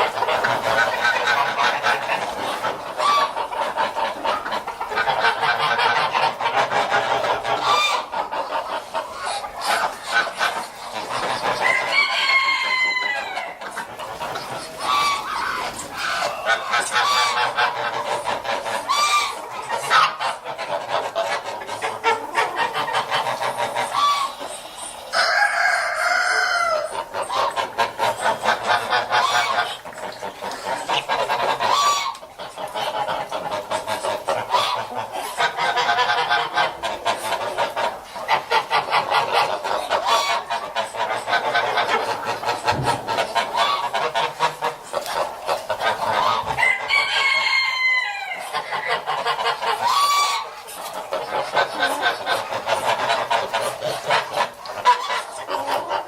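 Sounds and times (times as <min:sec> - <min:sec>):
geese cackling and gabbling: 0:00.0 - 0:56.0
geese honking: 0:00.0 - 0:56.0.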